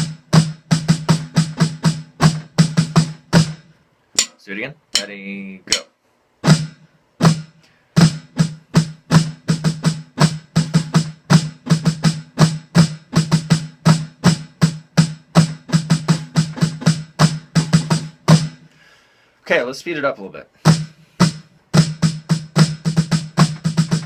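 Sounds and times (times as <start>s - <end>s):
snare drum playing: 0.0s - 3.6s, 5.0s - 18.6s, 20.7s - 24.0s.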